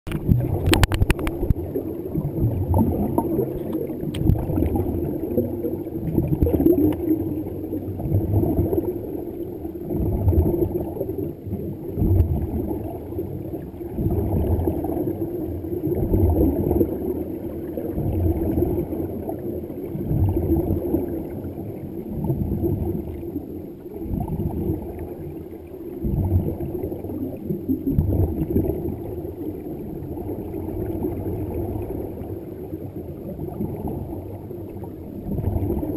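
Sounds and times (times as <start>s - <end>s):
underwater bubbling: 0.0s - 35.9s.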